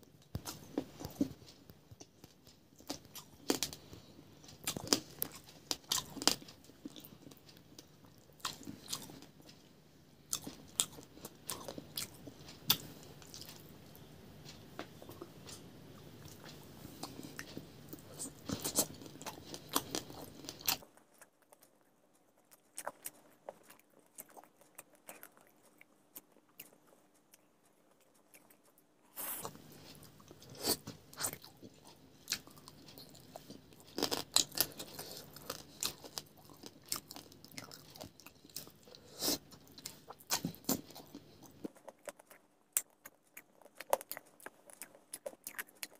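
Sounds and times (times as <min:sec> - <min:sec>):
chewing and crunching fried food: 0:00.0 - 0:45.9.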